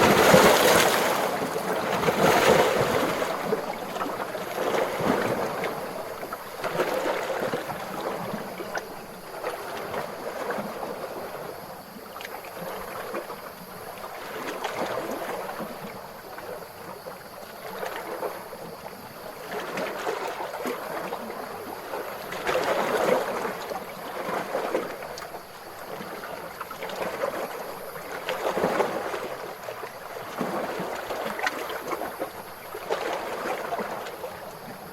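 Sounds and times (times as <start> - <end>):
small ocean waves lapping: 0.0 - 34.9.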